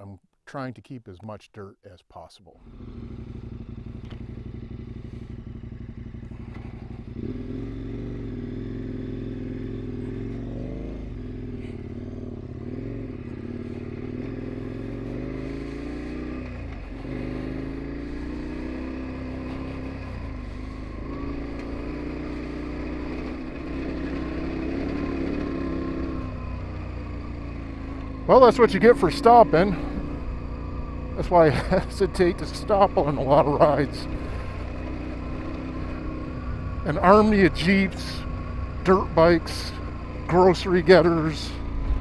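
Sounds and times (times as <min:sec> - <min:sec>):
motorcycle engine revving: 0:02.6 - 0:42.0.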